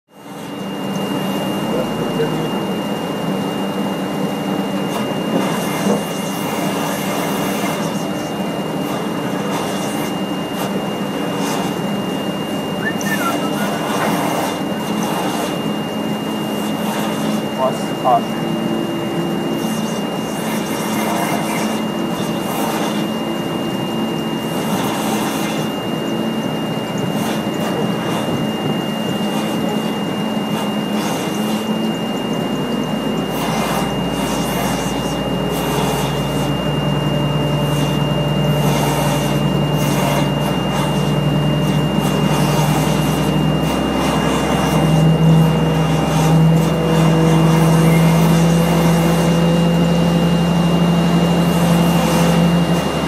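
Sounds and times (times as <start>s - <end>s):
deep drone: 0.1s - 53.0s
high-pitched whine: 0.1s - 53.0s
pushback tug engine: 0.1s - 53.0s.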